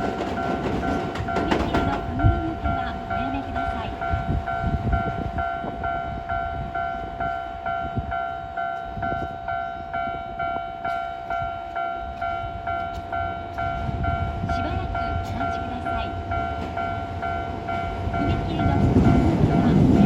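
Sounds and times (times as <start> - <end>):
level-crossing warning bell: 0.0 - 20.0.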